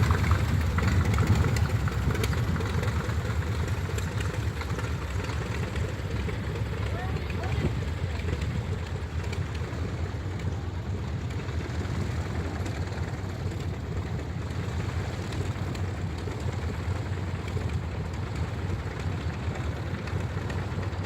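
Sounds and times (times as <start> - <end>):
model airplane engine running: 0.0 - 21.0.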